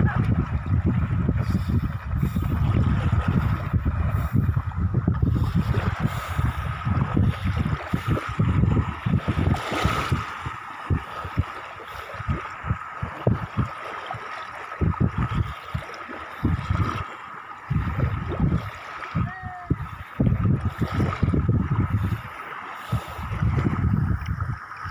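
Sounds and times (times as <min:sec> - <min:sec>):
waves lapping on sandy shore: 0:00.0 - 0:24.9
wind buffeting microphone: 0:00.0 - 0:24.9.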